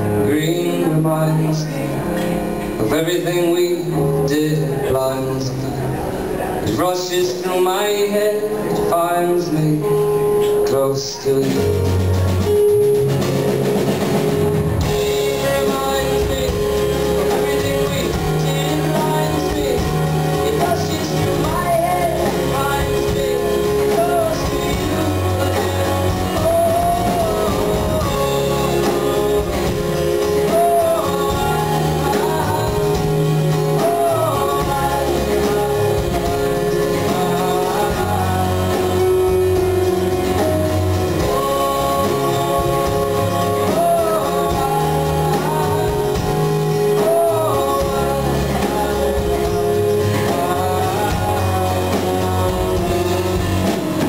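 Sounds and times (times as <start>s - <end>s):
man singing: 0.0s - 5.9s, 6.6s - 13.0s, 14.8s - 54.0s
electric keyboard: 0.0s - 54.0s
pop band playing: 0.0s - 54.0s.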